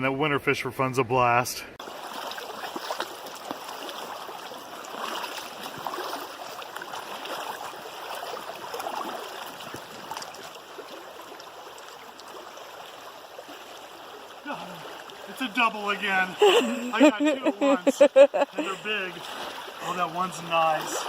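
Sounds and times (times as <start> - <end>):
stream water running: 1.8 - 21.0.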